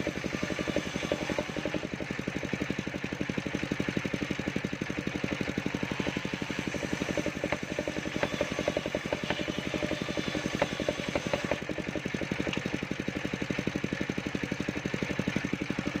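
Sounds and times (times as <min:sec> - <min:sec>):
sawmill engine idling: 0:00.0 - 0:16.0.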